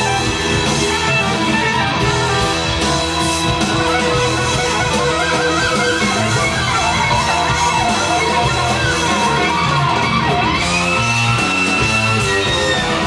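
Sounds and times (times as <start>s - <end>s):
rock music over speakers: 0.0s - 13.0s.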